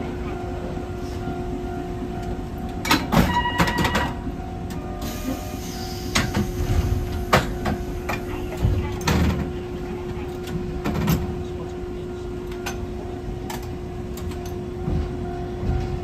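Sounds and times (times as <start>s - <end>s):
tram hum: 0.0s - 16.0s.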